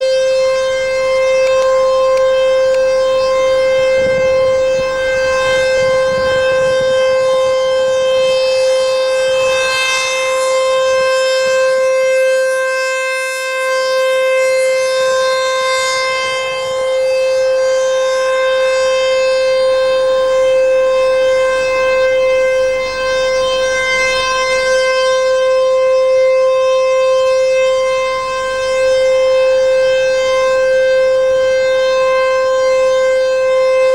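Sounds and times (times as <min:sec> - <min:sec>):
tornado warning siren steady tone: 0:00.0 - 0:33.9.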